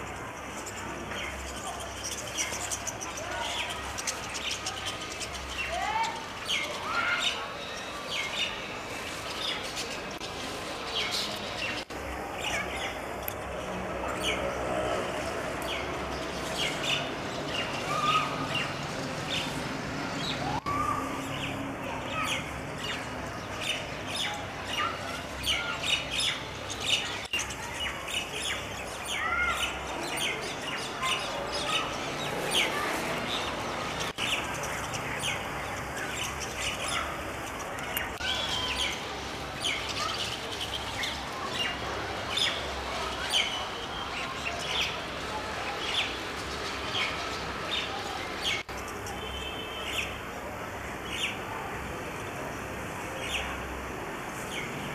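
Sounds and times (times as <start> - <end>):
flock of starlings chattering: 0.0 - 54.9.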